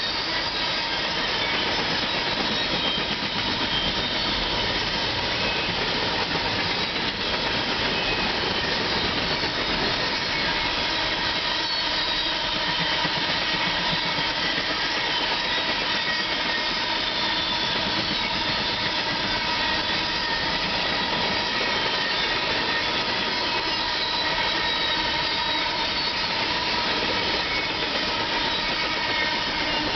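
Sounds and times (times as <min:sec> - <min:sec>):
steel wheels on rail: 0:00.0 - 0:29.9.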